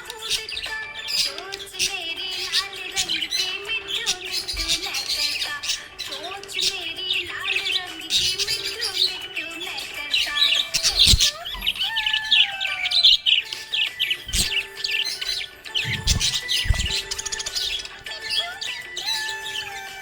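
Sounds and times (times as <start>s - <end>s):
budgerigars chirping and warbling: 0.0s - 20.0s.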